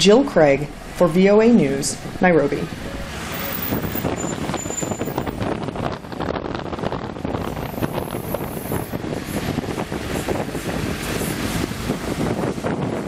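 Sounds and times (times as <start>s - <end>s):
engine and tyre noise: 0.0s - 13.0s
wind on microphone: 0.0s - 13.0s.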